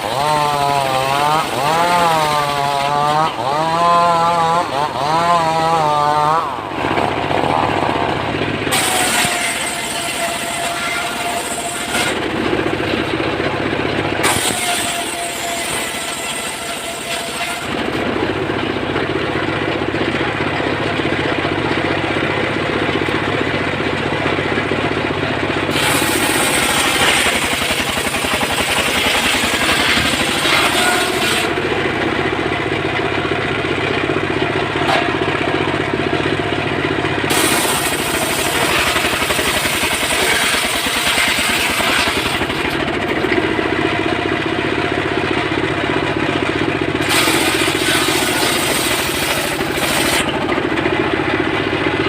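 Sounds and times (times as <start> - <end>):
engine-driven wood saw running: 0.0 - 52.0.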